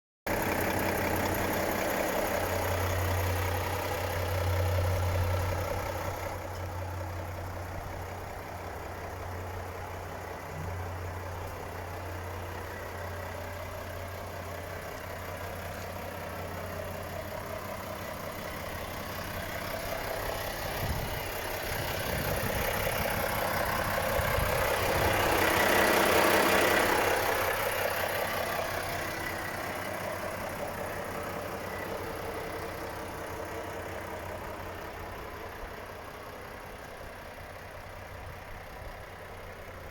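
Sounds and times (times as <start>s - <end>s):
diesel truck engine idling: 0.2s - 39.9s.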